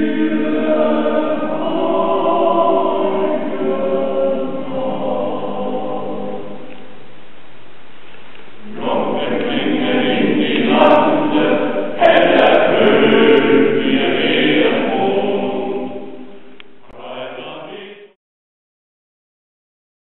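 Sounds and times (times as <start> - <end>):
choir singing held chords: 0.0 - 7.1, 8.6 - 18.2.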